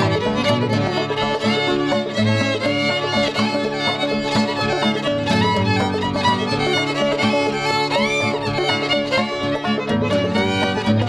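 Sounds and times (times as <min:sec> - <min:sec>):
violin music with steady beat: 0:00.0 - 0:11.0.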